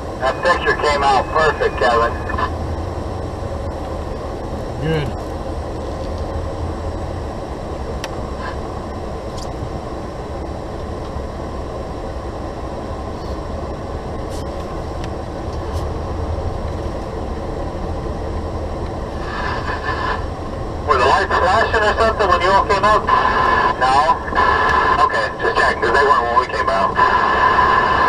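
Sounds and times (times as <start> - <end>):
road and tyre noise: 0.0 - 28.0
truck engine drone: 0.0 - 28.0.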